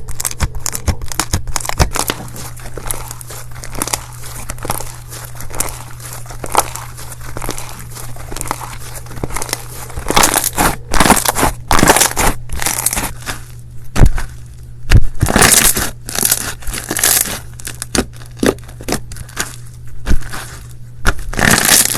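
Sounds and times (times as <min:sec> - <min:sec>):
low hum: 0:00.0 - 0:21.9
slime crackling and popping: 0:00.0 - 0:21.9.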